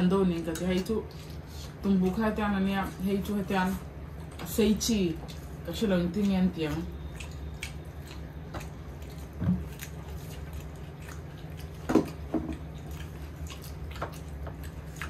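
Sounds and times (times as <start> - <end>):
people chewing and eating: 0.0 - 2.2, 4.1 - 15.0
steady low hum: 0.0 - 15.0.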